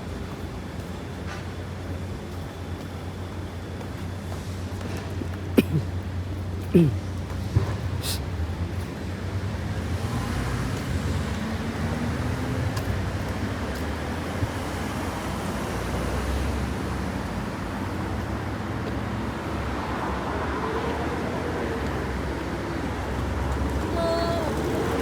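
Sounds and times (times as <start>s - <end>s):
vehicles passing: 4.8s - 25.0s.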